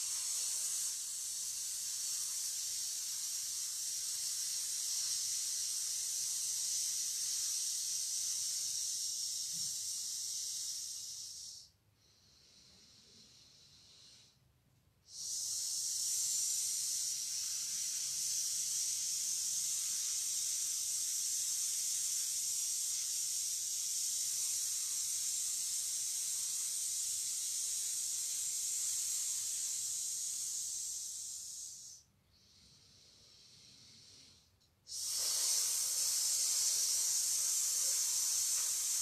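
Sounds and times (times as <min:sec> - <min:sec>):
woman exhaling a hiss: 0:00.0 - 0:14.4, 0:15.0 - 0:39.0.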